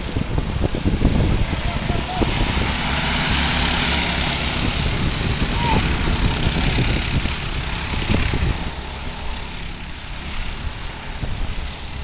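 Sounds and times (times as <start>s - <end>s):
go-kart engines buzzing: 0.0s - 12.0s.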